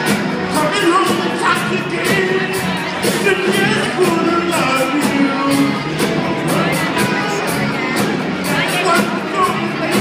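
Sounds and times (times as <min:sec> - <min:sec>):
live soul band playing: 0:00.0 - 0:10.0
person singing: 0:00.0 - 0:10.0.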